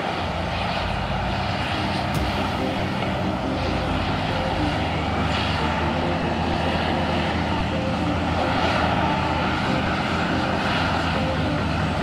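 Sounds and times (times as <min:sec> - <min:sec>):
bulldozer diesel engine drone: 0:00.0 - 0:12.0.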